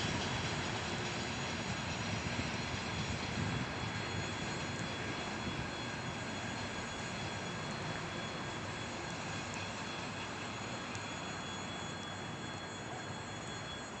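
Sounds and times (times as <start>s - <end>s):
freight train wagons rolling on rails: 0.0s - 14.0s.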